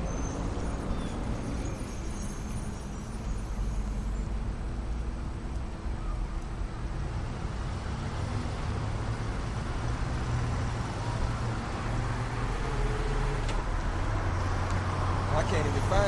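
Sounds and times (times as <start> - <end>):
cars passing on street: 0.0 - 16.0.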